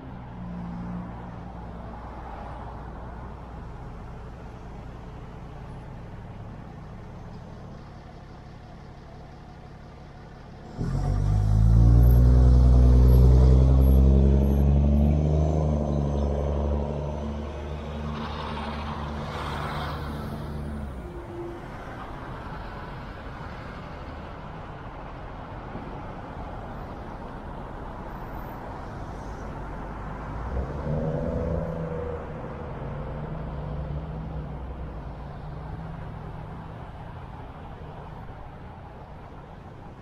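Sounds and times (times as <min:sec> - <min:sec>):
traffic and road noise: 0:00.0 - 0:40.0.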